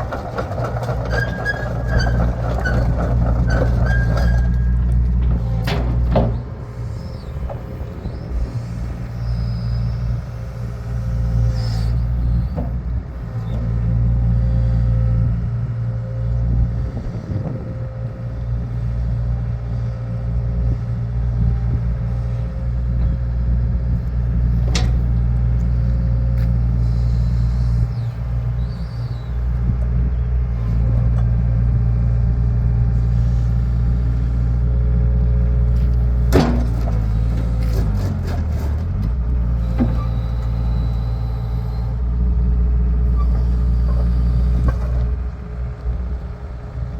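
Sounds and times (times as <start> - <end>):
constant hum: 0.0 - 46.9
low engine rumble: 0.0 - 46.9.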